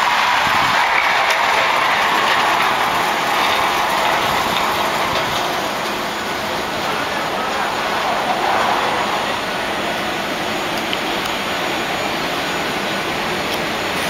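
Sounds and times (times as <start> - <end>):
transit car running on guideway: 0.0 - 14.0.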